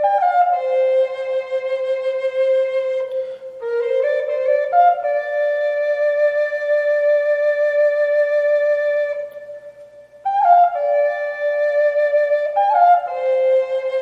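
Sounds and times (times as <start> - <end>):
flute-like wind instrument: 0.0 - 14.0.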